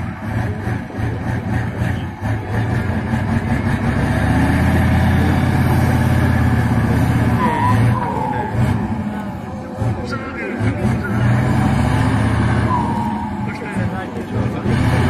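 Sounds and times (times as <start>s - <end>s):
truck diesel engine revving: 0.0s - 15.0s.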